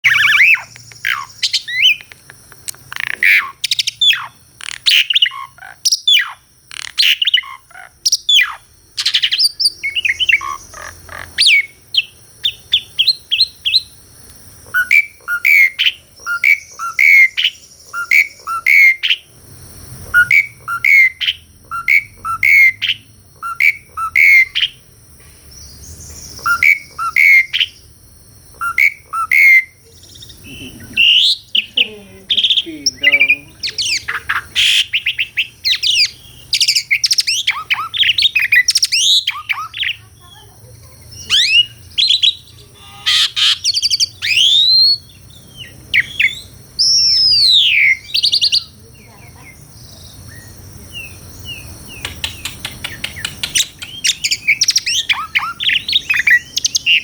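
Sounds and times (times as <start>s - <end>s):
starling singing: 0.0s - 19.3s, 20.0s - 24.8s, 25.6s - 27.9s, 28.5s - 57.0s.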